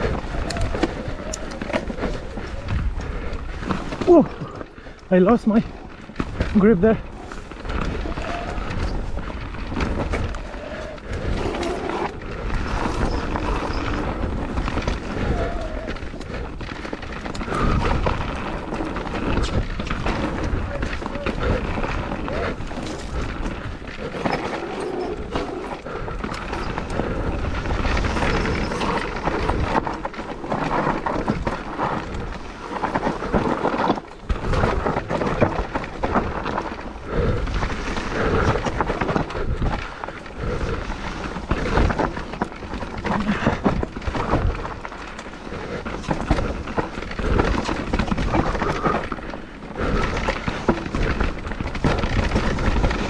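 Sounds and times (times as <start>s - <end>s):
bike clattering over bumps: 0.0s - 53.0s
tyres on dirt and stones: 0.0s - 53.0s.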